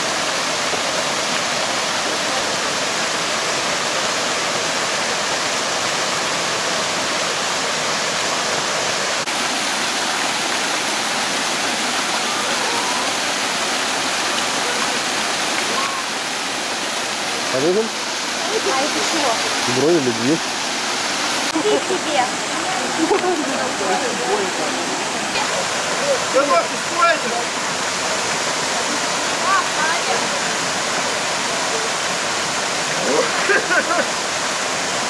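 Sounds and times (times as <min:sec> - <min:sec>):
stream rushing over rapids: 0:00.0 - 0:35.0.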